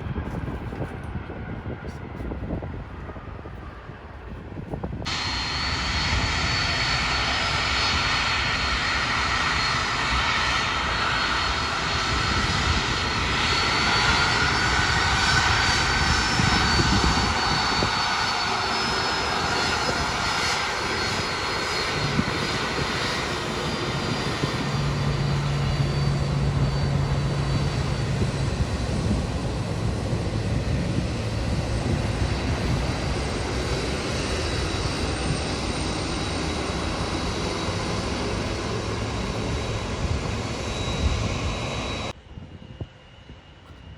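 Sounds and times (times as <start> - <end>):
jet engines roaring and whining: 0.0 - 43.9.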